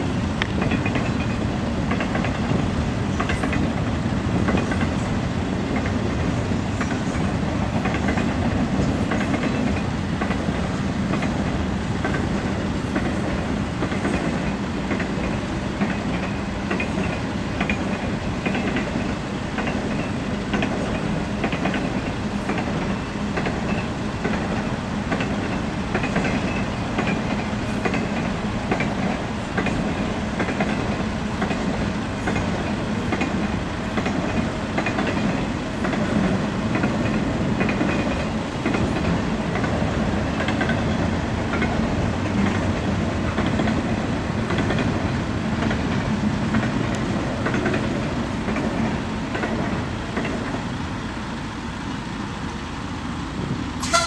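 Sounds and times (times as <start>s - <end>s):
train wheels on rails: 0.0s - 54.0s
wheels clicking over rail joints: 0.4s - 52.8s.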